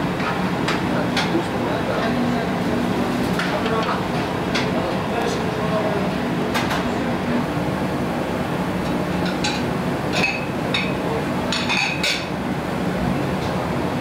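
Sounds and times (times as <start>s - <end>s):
kitchen machine noise: 0.0s - 14.0s.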